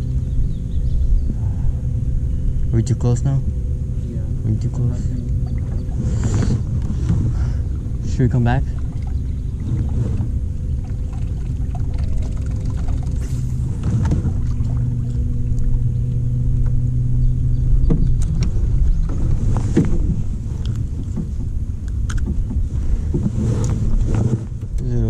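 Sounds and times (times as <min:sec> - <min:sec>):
low motor hum: 0:00.0 - 0:25.0
wind and water rumble: 0:00.0 - 0:25.0.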